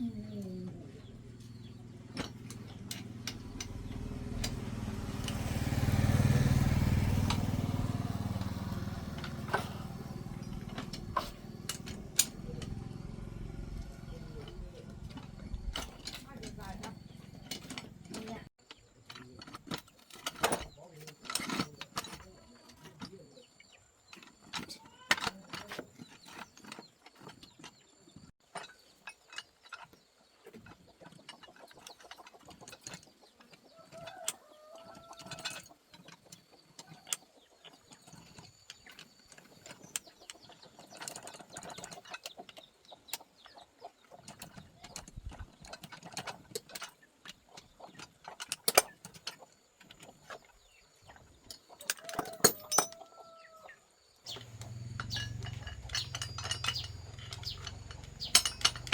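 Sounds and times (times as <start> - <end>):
hand tools clicking and knocking: 1.0 - 23.1, 24.1 - 27.8, 28.4 - 43.4, 44.0 - 53.1, 54.3 - 58.9.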